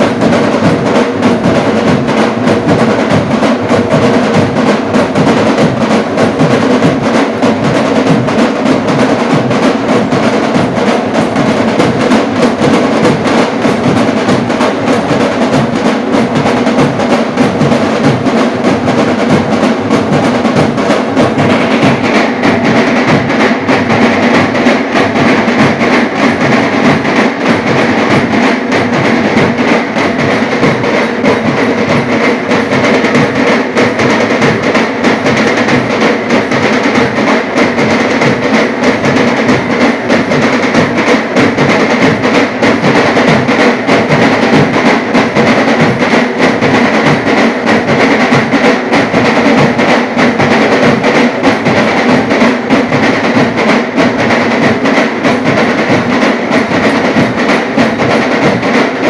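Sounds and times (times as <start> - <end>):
barrel drums beaten: 0.0 - 59.0
fast small drum rolls: 0.0 - 59.0.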